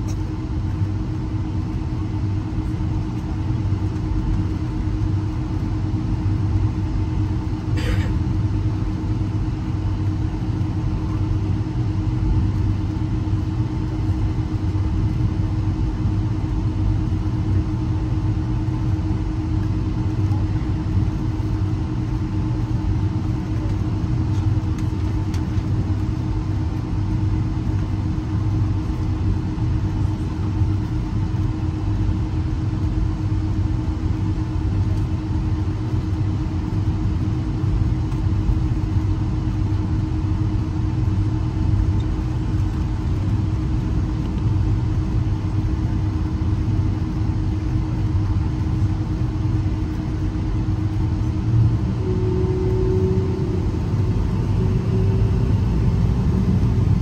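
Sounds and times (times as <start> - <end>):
constant hum: 0.0 - 57.0
jet engines idling: 0.0 - 57.0.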